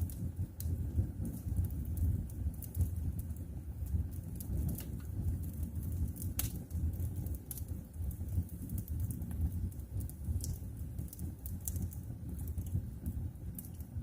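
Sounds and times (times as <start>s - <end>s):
fire crackling and popping: 0.0s - 14.0s
wood fire rumbling: 0.0s - 14.0s.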